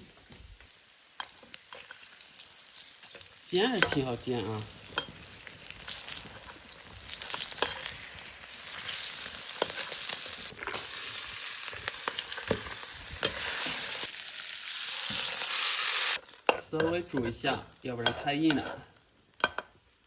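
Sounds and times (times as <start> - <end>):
fish sizzling in oil: 0.6 - 20.0.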